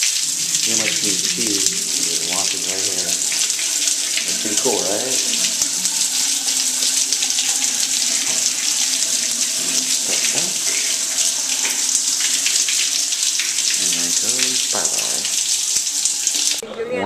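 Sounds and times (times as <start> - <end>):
water running into a urinal: 0.0 - 16.6.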